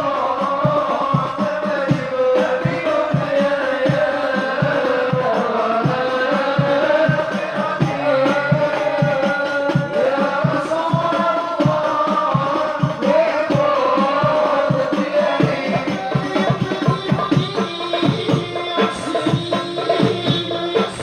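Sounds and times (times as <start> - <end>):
group singing devotional songs: 0.0 - 21.0
hand drums beating: 0.0 - 21.0.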